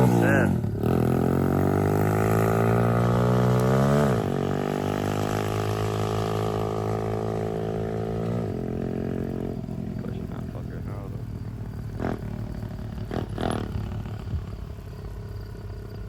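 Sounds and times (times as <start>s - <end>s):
dirt bike engine revving: 0.0s - 15.7s.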